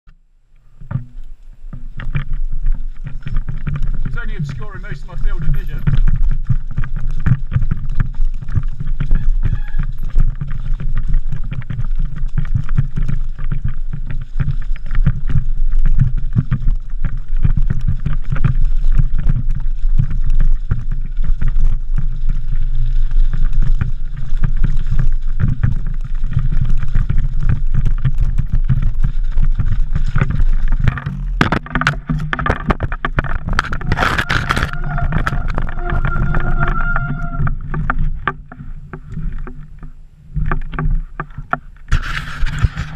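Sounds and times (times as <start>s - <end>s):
wind and tyre rumble: 0.1s - 42.9s
bike rattling and knocking: 0.8s - 42.9s.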